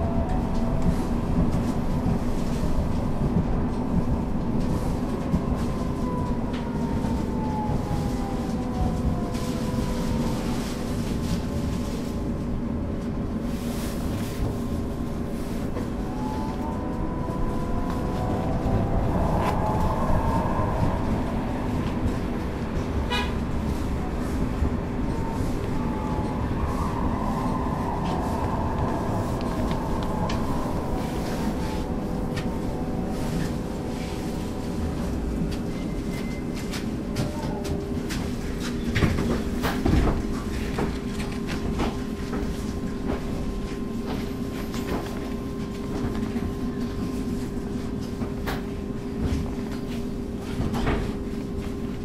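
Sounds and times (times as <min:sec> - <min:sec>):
wheels rumbling on track: 0:00.0 - 0:52.0.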